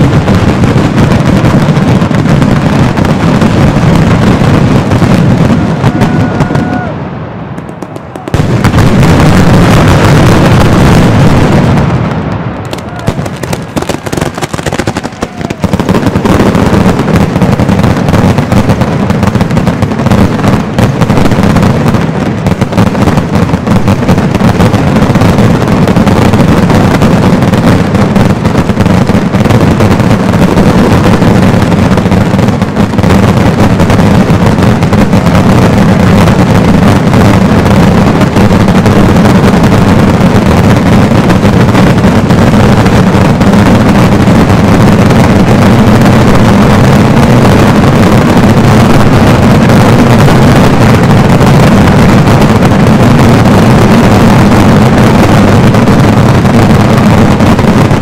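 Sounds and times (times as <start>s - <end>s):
fireworks exploding in continuous bangs: 0.0s - 58.0s.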